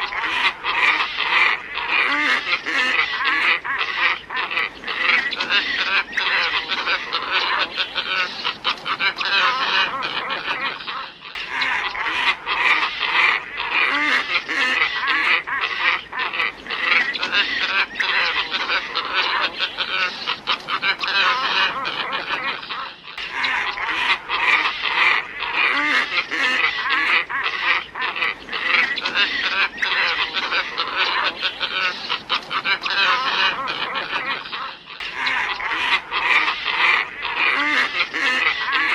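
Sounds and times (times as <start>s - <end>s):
flock of ibis calling: 0.0s - 38.9s.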